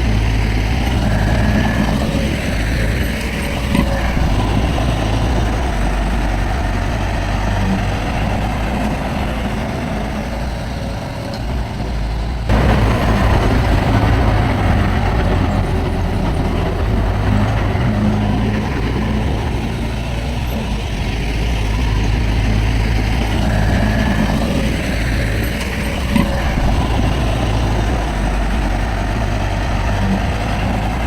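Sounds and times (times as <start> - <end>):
heavy diesel machinery rumbling: 0.0 - 31.0.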